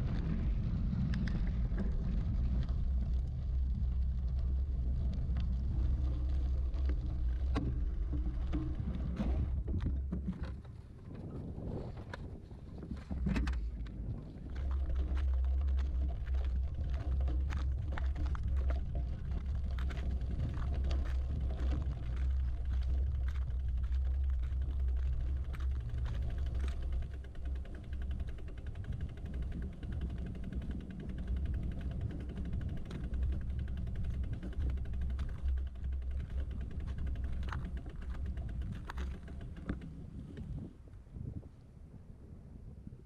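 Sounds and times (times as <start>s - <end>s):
bicycle clicks and rattles: 0.0s - 40.7s
wind buffeting microphone: 0.0s - 43.0s.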